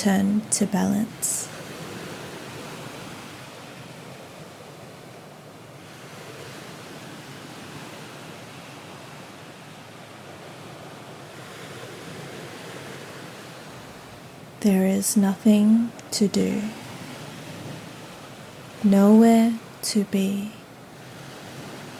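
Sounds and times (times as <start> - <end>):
ocean waves on shore: 0.0 - 21.9.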